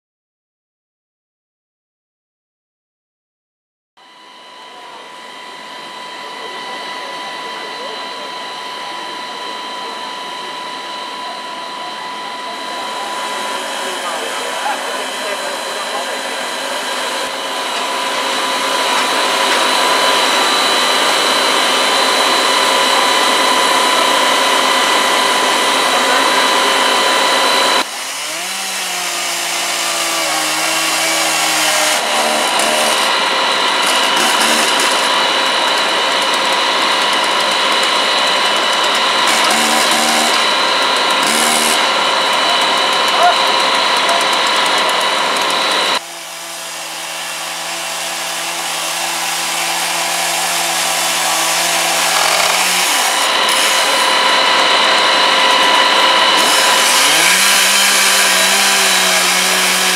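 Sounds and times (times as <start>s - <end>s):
machinery high whine: 4.0s - 46.0s, 46.7s - 59.9s
motor spinning up: 9.2s - 59.9s.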